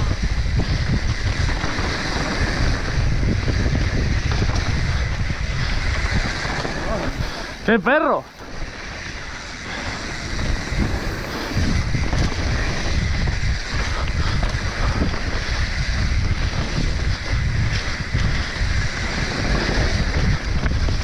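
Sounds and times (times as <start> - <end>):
bike knocks and rattles: 0.0 - 7.4, 8.4 - 21.0
tyres rumbling over dirt: 0.0 - 21.0
wind buffeting microphone: 0.0 - 21.0.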